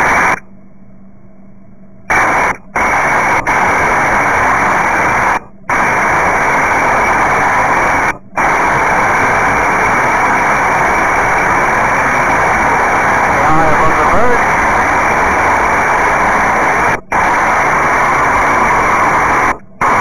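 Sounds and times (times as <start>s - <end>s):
aircraft cockpit noise over intercom: 0.0s - 0.5s, 2.1s - 20.0s.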